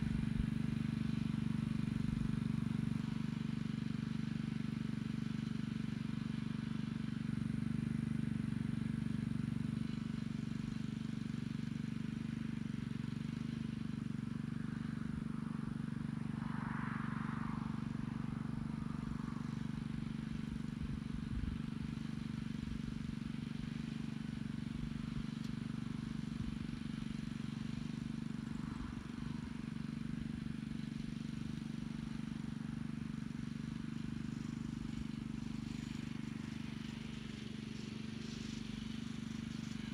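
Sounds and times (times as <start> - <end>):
small tiller engine running: 0.0 - 39.9.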